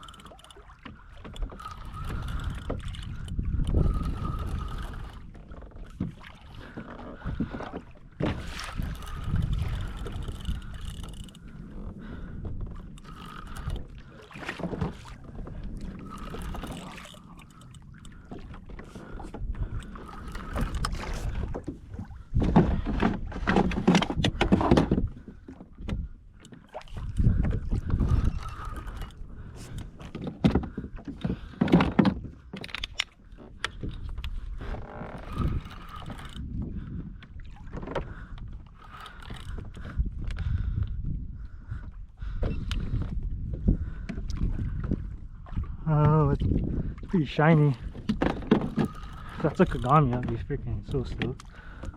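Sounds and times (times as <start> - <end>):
water sloshing against hull: 0.0 - 51.9
wind rumbling on microphone: 0.0 - 51.9.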